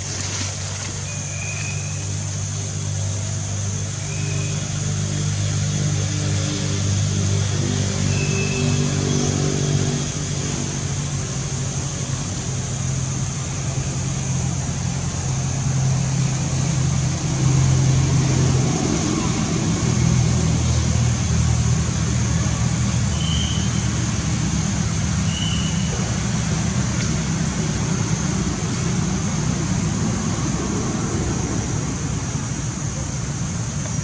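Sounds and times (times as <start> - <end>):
vehicle engine hum: 0.0 - 34.0.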